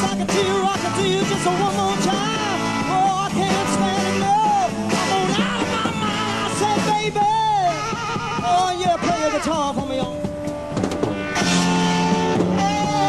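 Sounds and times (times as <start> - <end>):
person singing: 0.0 - 10.3, 11.6 - 13.0
psychedelic rock band playing: 0.0 - 13.0.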